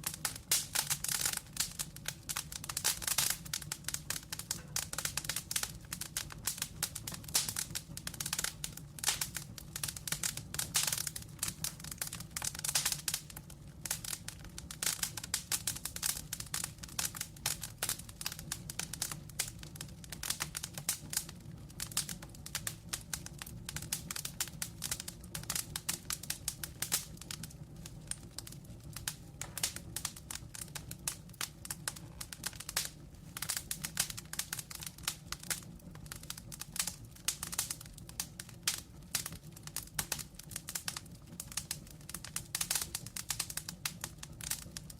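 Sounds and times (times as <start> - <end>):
low steady hiss: 0.0 - 44.9
wood fire crackling: 0.0 - 44.9.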